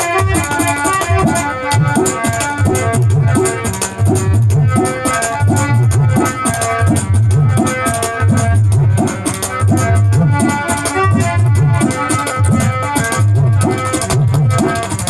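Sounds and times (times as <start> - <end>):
sustained instrumental notes: 0.0 - 15.0
vocal drum beat: 0.2 - 15.0.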